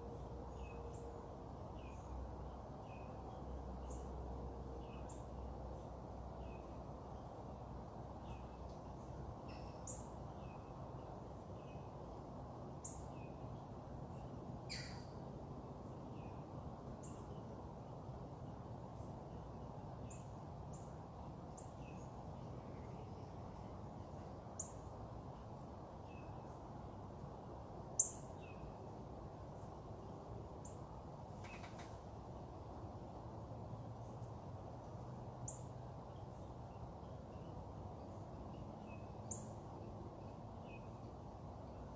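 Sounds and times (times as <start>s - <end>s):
low background noise: 0.0s - 41.9s.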